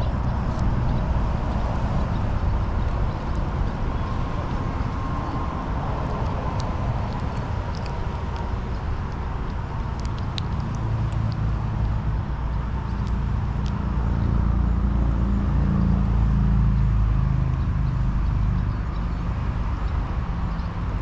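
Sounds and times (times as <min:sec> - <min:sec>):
passing motor engine drone: 0:00.0 - 0:21.0.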